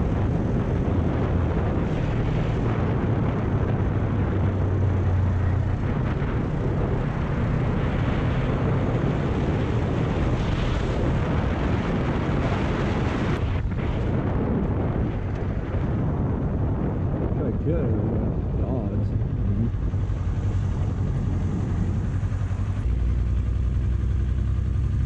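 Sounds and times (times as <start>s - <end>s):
motorcycle engine running: 0.0s - 17.3s, 17.9s - 25.0s
wind on microphone: 0.0s - 25.0s.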